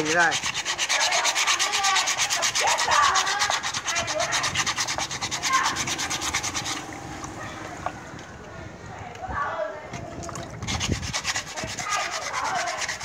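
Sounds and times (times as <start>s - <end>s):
hand rubbing metal under water: 0.0s - 8.6s, 9.9s - 13.0s.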